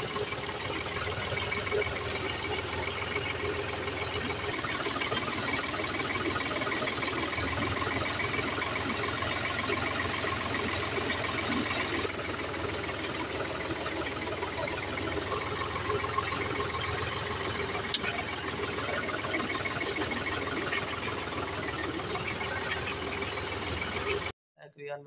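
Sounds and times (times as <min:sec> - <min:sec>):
tractor engine clattering: 0:00.0 - 0:24.3.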